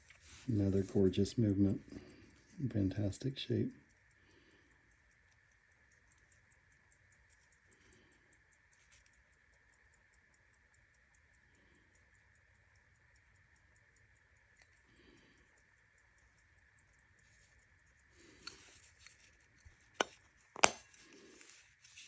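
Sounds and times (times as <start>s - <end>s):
pocket watch ticking: 0.1s - 22.0s.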